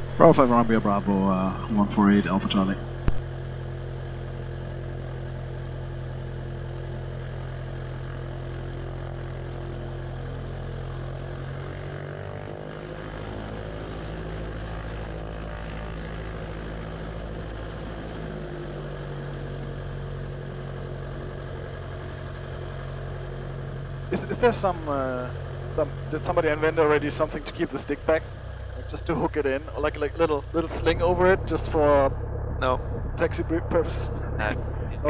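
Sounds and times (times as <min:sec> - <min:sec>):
aircraft engine and propeller: 0:00.0 - 0:35.0.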